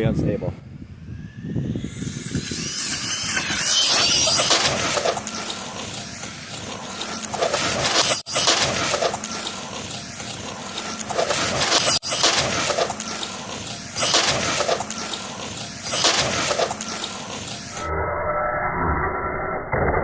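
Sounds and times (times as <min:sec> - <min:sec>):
rc truck motor and tyres rushing: 0:00.4 - 0:17.9.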